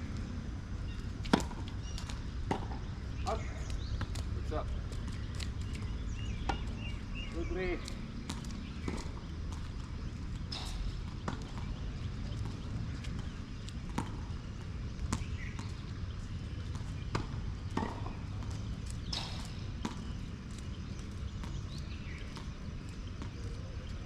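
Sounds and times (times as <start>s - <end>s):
tennis balls struck and bouncing: 0.1s - 24.0s.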